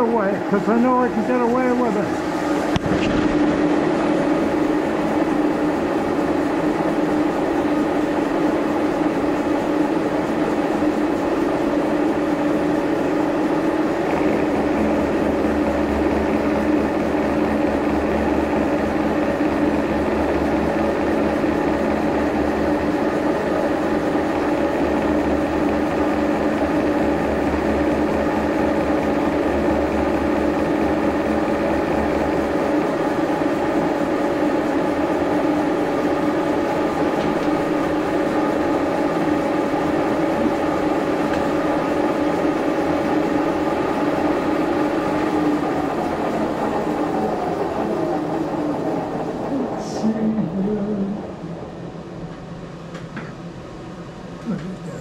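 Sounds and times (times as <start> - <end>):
milling machine drone: 0.0 - 55.0.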